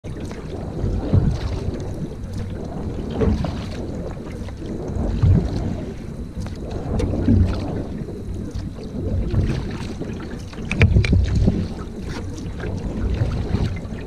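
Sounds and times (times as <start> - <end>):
paddle strokes in water: 0.0 - 14.0
wind rumble on microphone: 0.0 - 14.0.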